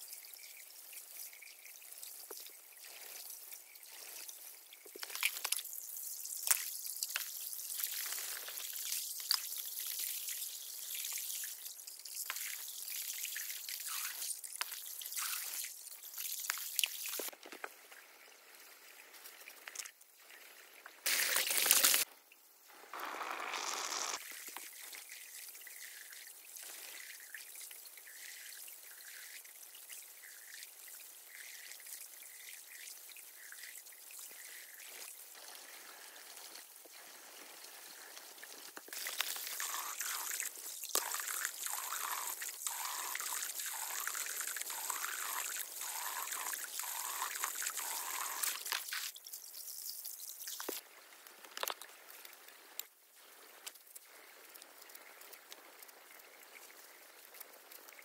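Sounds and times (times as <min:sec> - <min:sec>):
water pouring and trickling: 0:00.0 - 0:58.0.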